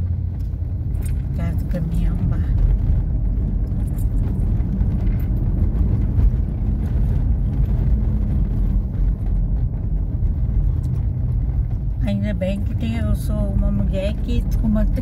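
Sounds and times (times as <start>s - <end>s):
car engine and tyre drone: 0.0s - 15.0s.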